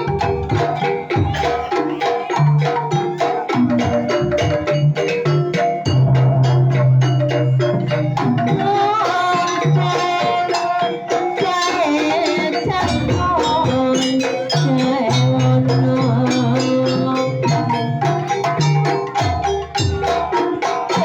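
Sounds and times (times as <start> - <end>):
struck percussion: 0.0 - 21.0.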